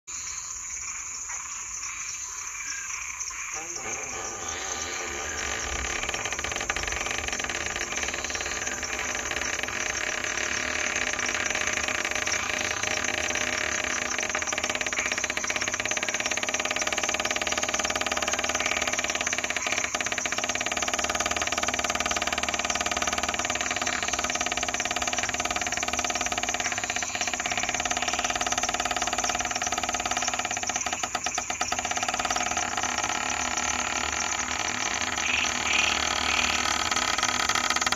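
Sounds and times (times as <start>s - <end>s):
frogs trilling: 0.1s - 37.9s
fast rattle of clicks: 3.6s - 37.9s.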